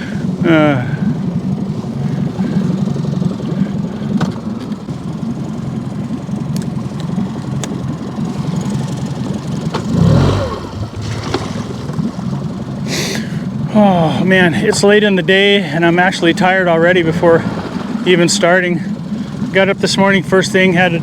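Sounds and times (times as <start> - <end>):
outboard motor idling: 0.0 - 21.0.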